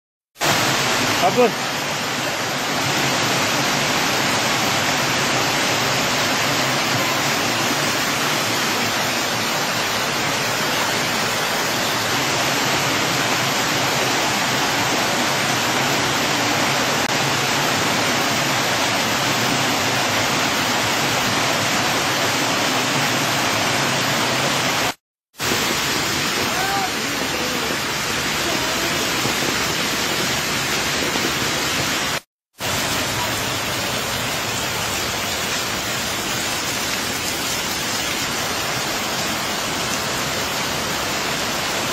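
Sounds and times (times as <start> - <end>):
water rushing down stone steps: 0.4 - 41.9.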